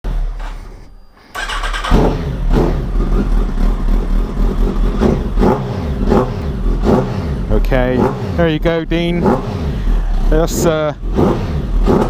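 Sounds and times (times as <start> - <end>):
motorcycle engine revving: 1.4 - 12.0.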